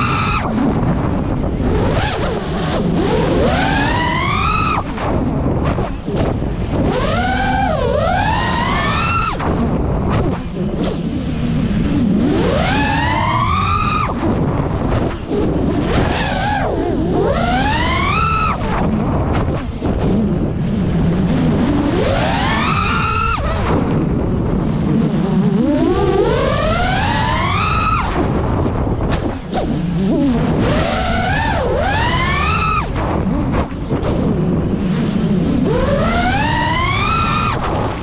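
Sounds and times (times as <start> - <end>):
quadcopter motors whining: 0.0 - 38.0
wind rushing: 0.0 - 38.0.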